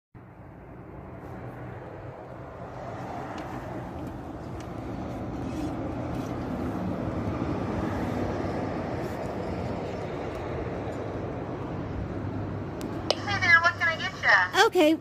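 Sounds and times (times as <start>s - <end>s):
low rumble of vehicle noise: 0.2s - 15.0s.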